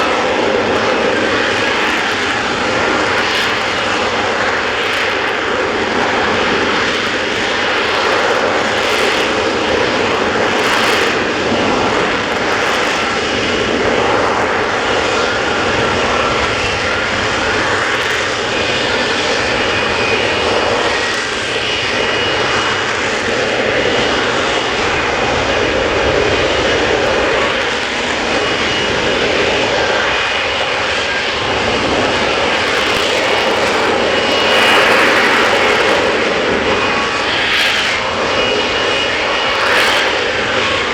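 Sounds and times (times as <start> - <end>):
faint high whine: 0.0 - 40.9
jet engine noise: 0.0 - 40.9.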